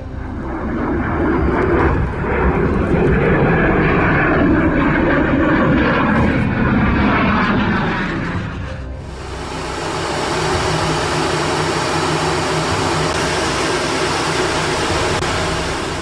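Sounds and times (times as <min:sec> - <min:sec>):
jet fighter engine roar: 0:00.0 - 0:16.0.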